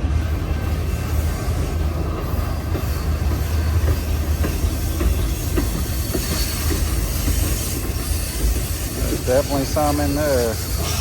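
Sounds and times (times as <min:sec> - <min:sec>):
train wheel clacks: 0:00.0 - 0:11.0
train wheels rumbling on rails: 0:00.0 - 0:11.0.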